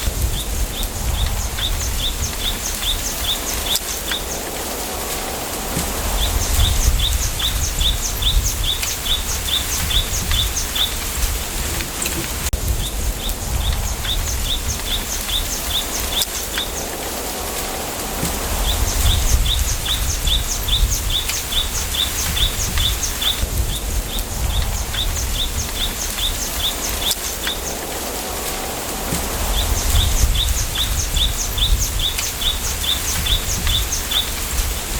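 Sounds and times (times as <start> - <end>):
wind buffeting microphone: 0.0 - 34.9
wind rustling bamboo: 0.0 - 34.9.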